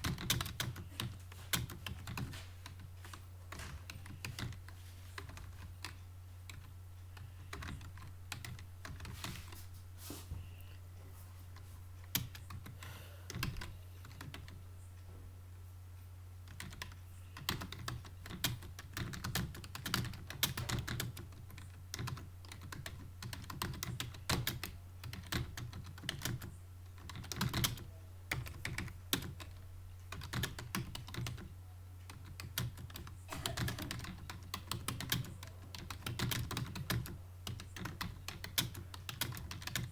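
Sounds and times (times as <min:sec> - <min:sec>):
computer keyboard typing: 0:00.0 - 0:09.4, 0:11.5 - 0:14.6, 0:16.5 - 0:39.9
steady low hum: 0:00.0 - 0:39.9.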